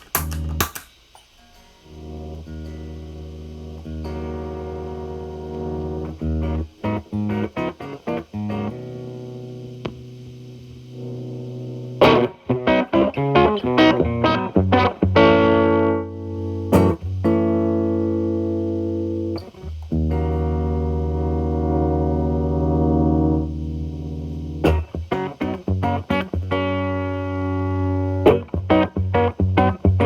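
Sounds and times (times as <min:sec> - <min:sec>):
electric guitar chords: 0:01.8 - 0:30.0.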